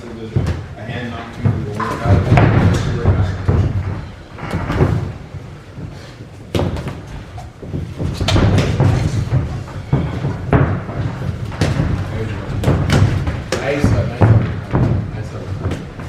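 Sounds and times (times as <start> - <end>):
boxing gloves punching: 1.4 - 16.0.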